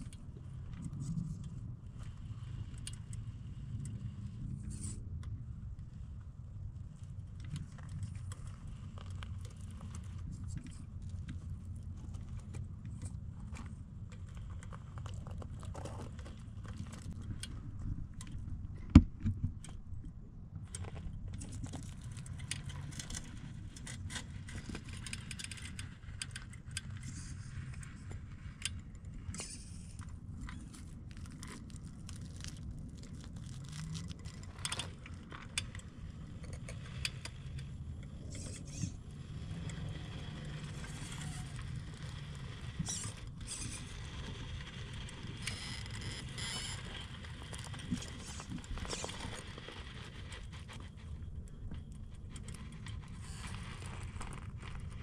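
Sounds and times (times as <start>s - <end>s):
tyres scraping over rock: 7.5s - 18.4s, 20.7s - 55.0s.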